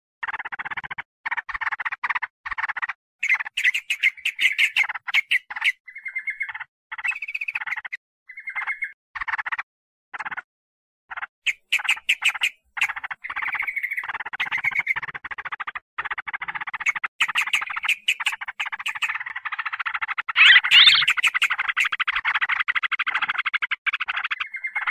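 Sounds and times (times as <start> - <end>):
bird chattering calls: 0.2 - 9.5, 11.1 - 24.9.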